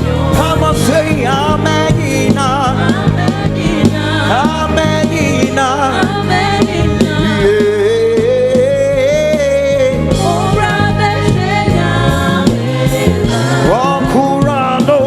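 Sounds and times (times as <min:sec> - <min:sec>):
band with keyboard and bass: 0:00.0 - 0:15.0
voices singing gospel: 0:00.0 - 0:15.0.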